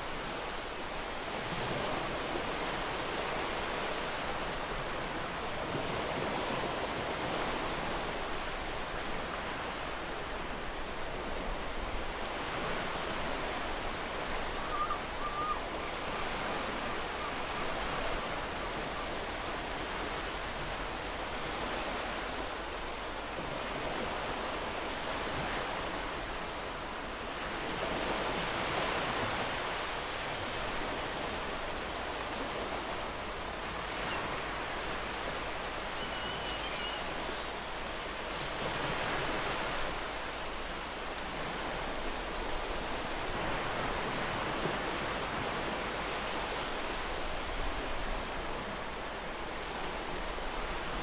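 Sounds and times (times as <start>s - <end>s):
ocean surf on shore: 0.0s - 51.0s.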